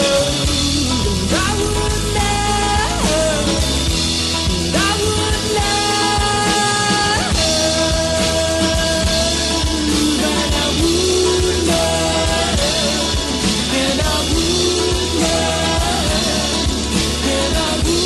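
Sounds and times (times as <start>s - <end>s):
folk-country band music: 0.0s - 18.0s.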